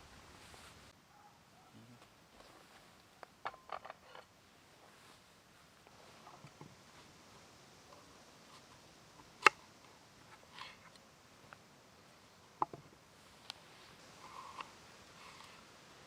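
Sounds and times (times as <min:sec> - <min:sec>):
soft rustle: 0:00.0 - 0:03.3, 0:04.0 - 0:16.0.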